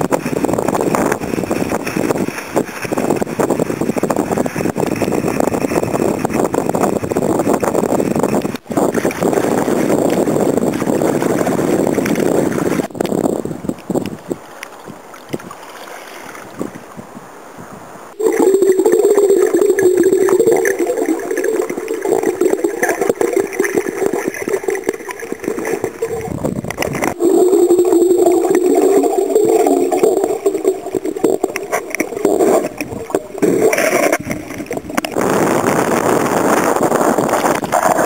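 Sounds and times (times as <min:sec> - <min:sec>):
underwater churning and gurgling: 0:00.0 - 0:14.0, 0:18.2 - 0:38.0
waves on open water: 0:00.0 - 0:38.0.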